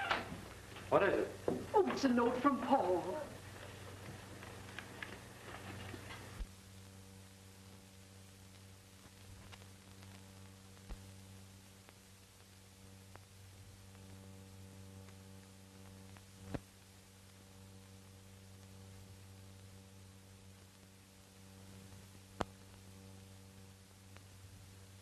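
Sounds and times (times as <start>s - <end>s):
low hum with faint hiss: 0.0s - 25.0s.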